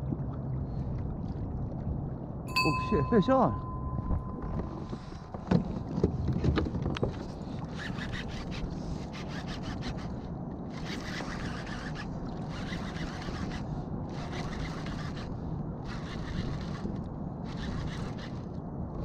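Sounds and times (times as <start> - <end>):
water noise: 0.0 - 18.6
wind: 0.0 - 19.0.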